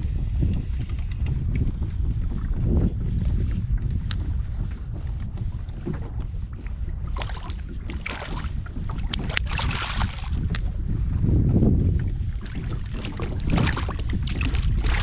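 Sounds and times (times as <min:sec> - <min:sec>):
water splashing against hull: 0:00.0 - 0:15.0
wind on microphone: 0:00.0 - 0:15.0.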